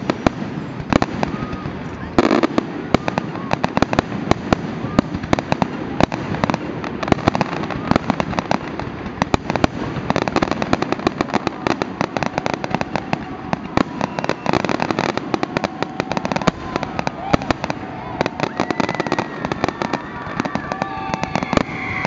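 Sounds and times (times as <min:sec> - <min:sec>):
fireworks bursting: 0:00.0 - 0:22.0
fireworks crackling: 0:00.0 - 0:22.0.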